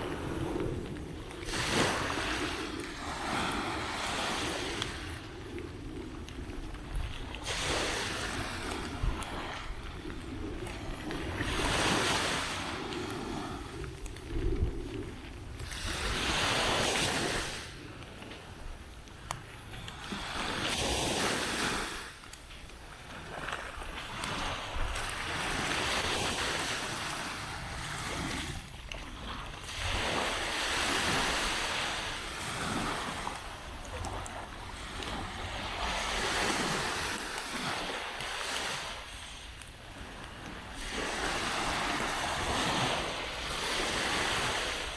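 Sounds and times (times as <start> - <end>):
small waves breaking on beach: 0.0 - 44.9.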